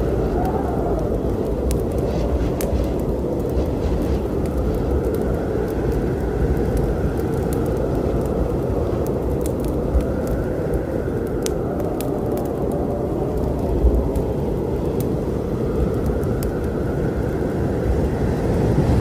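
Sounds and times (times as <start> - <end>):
wood fire crackling and popping: 0.0 - 18.5
low storm rumble: 0.0 - 19.0.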